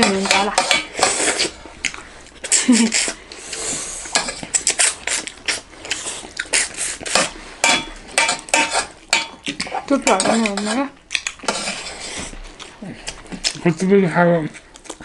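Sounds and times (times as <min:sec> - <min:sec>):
chewing and mouth sounds: 0:01.0 - 0:07.4, 0:08.9 - 0:15.0.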